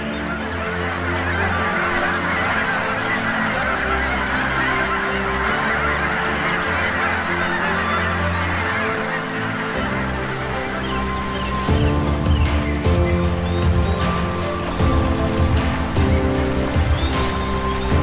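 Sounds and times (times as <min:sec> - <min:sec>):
dense busy high layer: 0:00.0 - 0:18.0
sustained low chords: 0:00.0 - 0:18.0.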